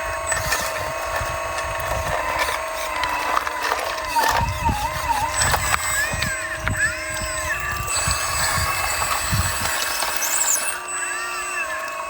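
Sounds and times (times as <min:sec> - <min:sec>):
hydraulic pump and motor whining: 0:00.0 - 0:12.0.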